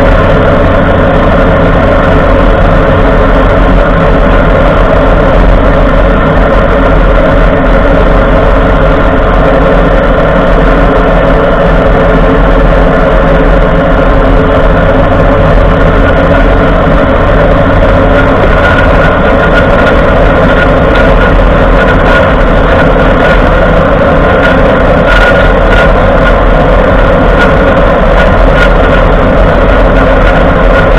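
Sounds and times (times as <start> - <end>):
truck engine and road noise: 0.0 - 30.9.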